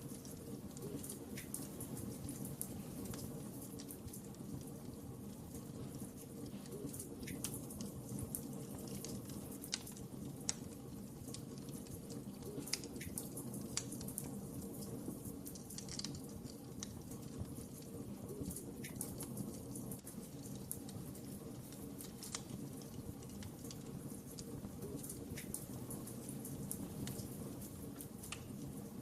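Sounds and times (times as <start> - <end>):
fire crackling and popping: 0.0 - 29.0
low rush of flame: 0.0 - 29.0.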